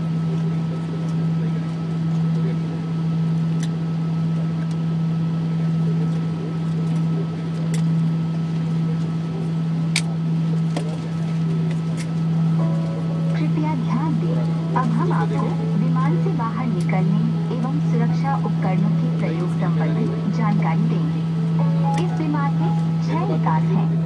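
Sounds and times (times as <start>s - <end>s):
aircraft cabin low hum: 0.0s - 24.0s.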